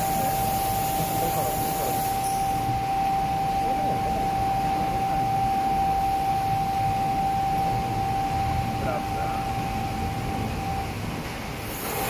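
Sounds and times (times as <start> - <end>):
single-pitched whine: 0.0 - 11.4
industrial machinery hum: 0.0 - 12.0.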